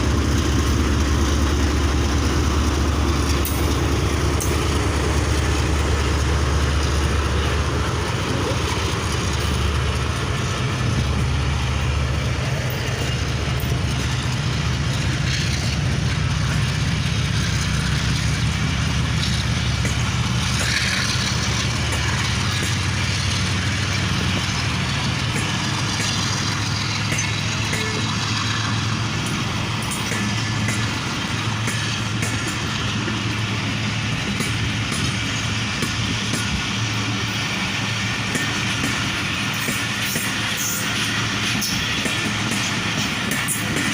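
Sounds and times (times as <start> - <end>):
diesel locomotive engine idling: 0.0 - 43.9.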